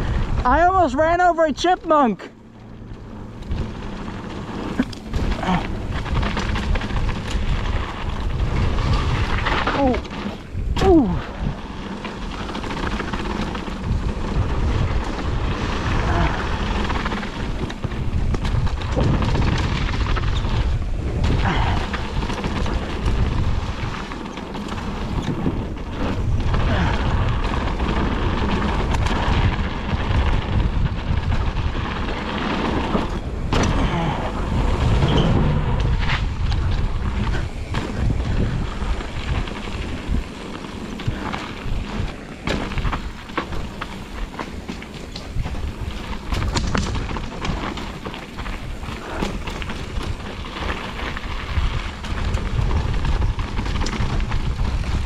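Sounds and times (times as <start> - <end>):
wind buffeting microphone: 0.0 - 1.7, 2.3 - 55.0
mountain bike rattling: 0.0 - 55.0
bike knocks and thuds on bumps: 3.0 - 55.0.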